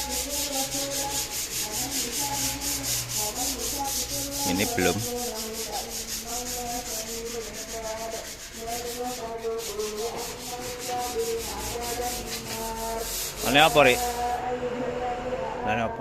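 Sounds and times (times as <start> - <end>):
abrasive scraping on metal: 0.0 - 14.6.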